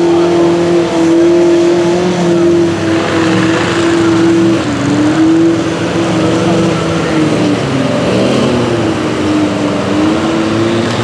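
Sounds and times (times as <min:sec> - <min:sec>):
truck engine at high revs: 0:00.0 - 0:11.0.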